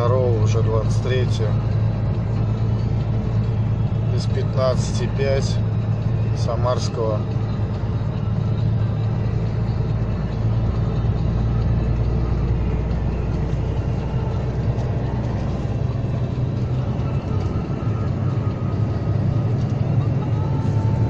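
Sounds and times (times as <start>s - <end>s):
diesel truck engine drone: 0.0s - 21.0s
road noise: 0.0s - 21.0s.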